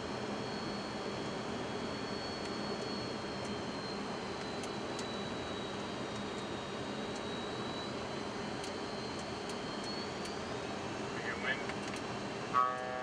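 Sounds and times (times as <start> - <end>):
airflow and engine rush: 0.0 - 13.0
faint high whine: 0.0 - 13.0.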